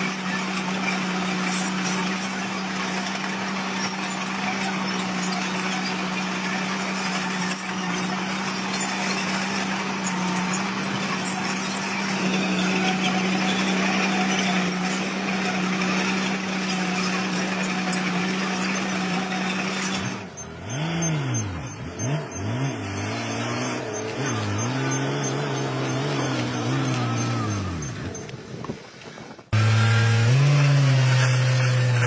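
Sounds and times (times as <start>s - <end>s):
heavy diesel engine running: 0.0s - 28.2s
engine revving: 0.0s - 28.3s, 29.5s - 32.0s.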